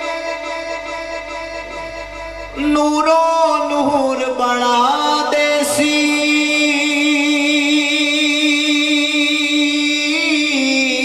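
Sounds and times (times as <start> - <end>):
man singing a long note: 0.0 - 11.0.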